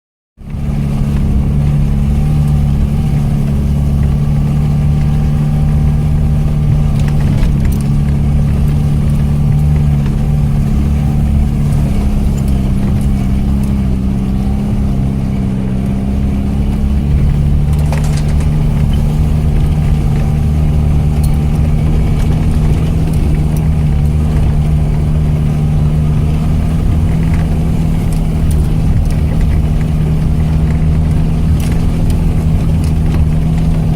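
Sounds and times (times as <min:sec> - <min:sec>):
vehicle engine running: 0:00.4 - 0:33.9.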